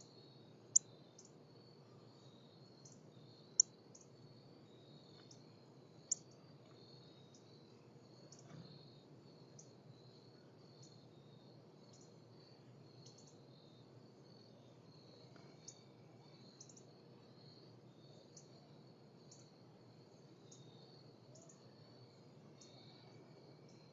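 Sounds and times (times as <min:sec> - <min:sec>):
insect trill: 0:00.0 - 0:23.9.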